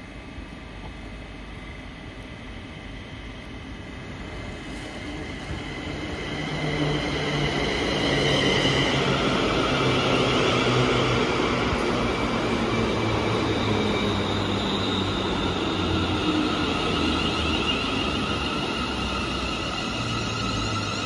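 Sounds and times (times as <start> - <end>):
train wheels on rail: 0.1 - 21.0.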